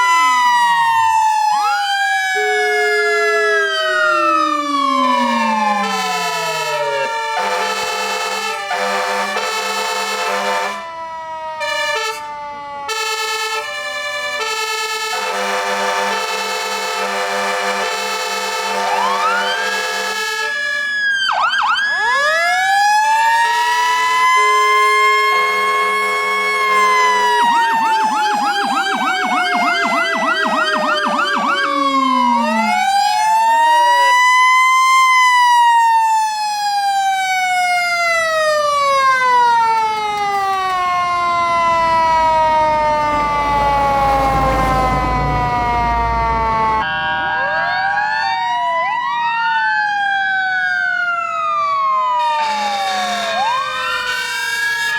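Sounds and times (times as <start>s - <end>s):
deep low siren rumble: 0.0s - 18.0s, 18.6s - 54.9s
fire engine siren wailing: 0.0s - 54.9s.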